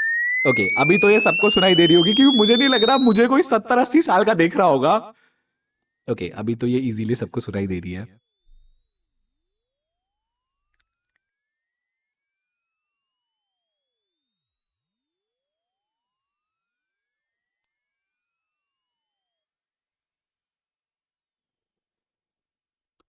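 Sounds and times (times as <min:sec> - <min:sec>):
high-pitched rising sine tone: 0:00.0 - 0:21.2.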